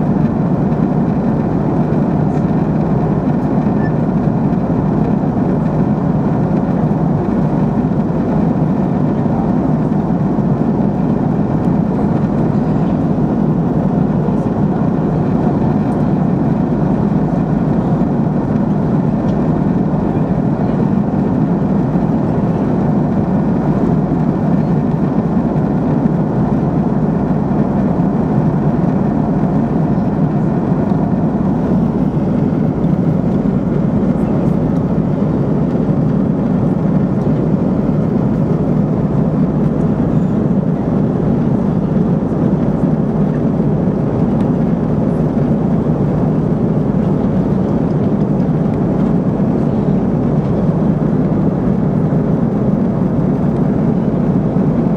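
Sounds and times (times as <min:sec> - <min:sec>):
jet airliner cabin noise: 0:00.0 - 0:54.9.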